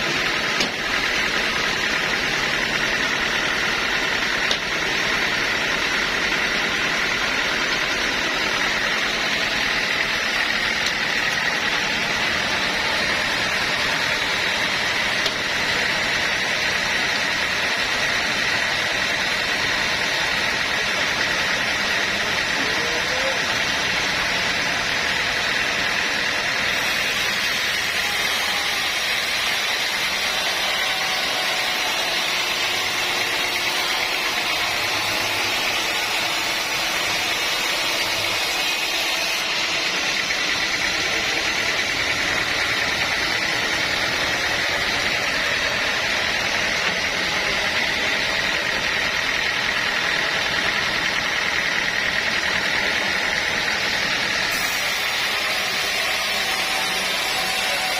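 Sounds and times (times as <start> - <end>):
high mechanical whine: 0.0 - 57.9
sawmill machinery running: 0.0 - 57.9.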